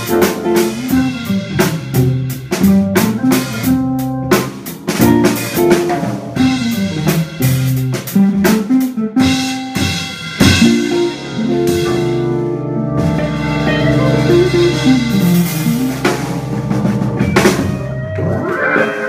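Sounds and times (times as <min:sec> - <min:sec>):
jazz trio playing held chords: 0:00.0 - 0:19.0.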